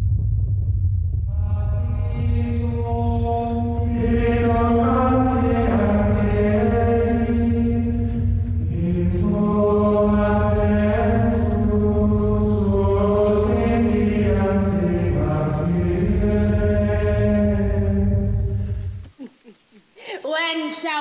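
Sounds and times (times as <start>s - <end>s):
deep steady drone: 0.0s - 19.1s
long held vocal notes: 1.3s - 19.0s.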